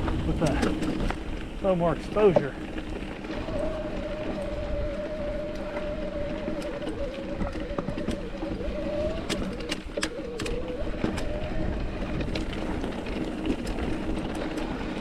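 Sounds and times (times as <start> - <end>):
bike clicks and clatters: 0.0 - 15.0
bike tyres on rocky trail: 0.0 - 15.0
steady whirring tone: 0.0 - 15.0.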